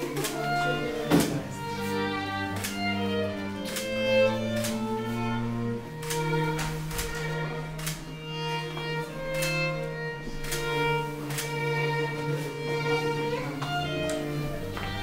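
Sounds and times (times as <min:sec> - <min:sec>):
violin and bowed strings music: 0:00.0 - 0:15.0.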